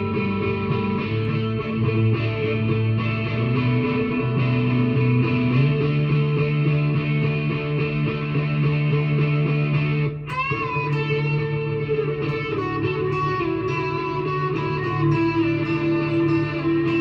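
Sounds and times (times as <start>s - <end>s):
electric guitar picked slowly: 0.0s - 17.0s.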